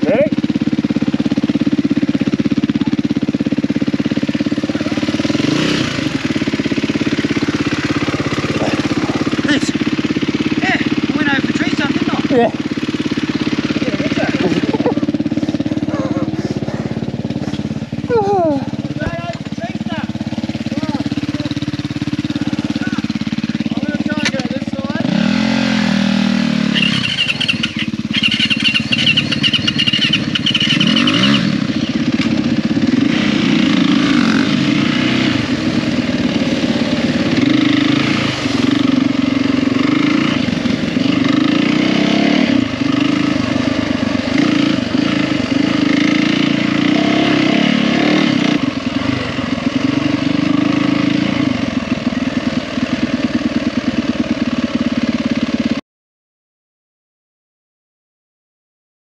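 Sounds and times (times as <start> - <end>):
dirt bike engine revving: 0.0 - 55.8.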